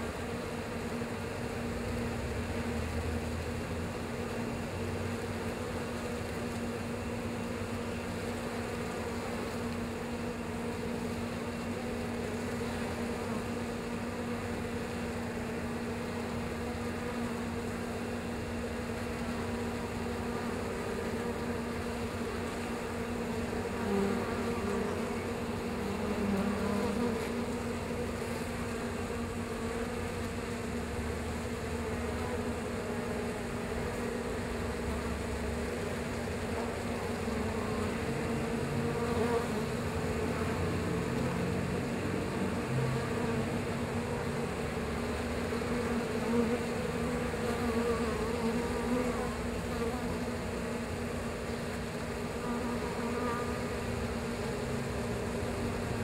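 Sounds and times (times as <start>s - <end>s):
honeybees buzzing: 0.0s - 56.0s.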